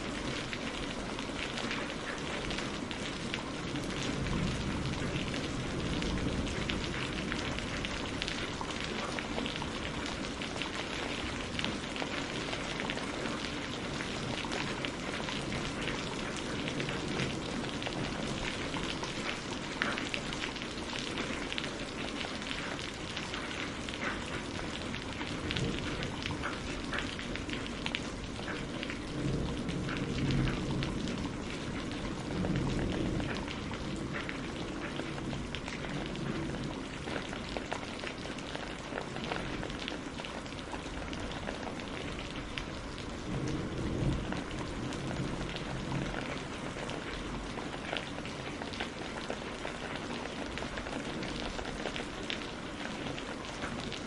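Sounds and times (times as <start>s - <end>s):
rain on a greenhouse roof: 0.0s - 54.0s.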